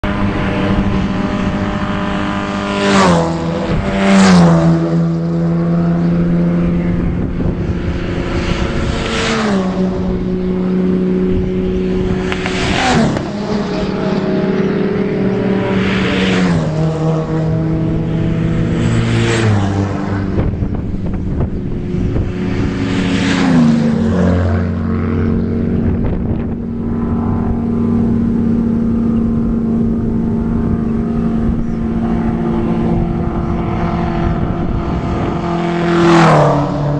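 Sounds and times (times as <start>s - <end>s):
race car engines passing: 0.0s - 36.9s.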